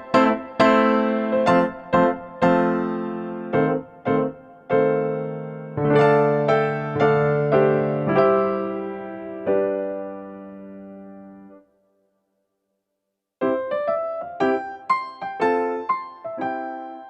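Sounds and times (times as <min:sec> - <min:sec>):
electric piano slow melody: 0:00.0 - 0:11.7, 0:13.4 - 0:17.0.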